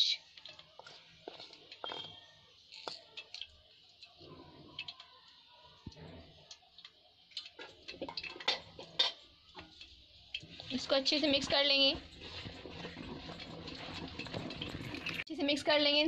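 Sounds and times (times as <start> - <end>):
utensils clicking on a steel pot: 0.3 - 15.3.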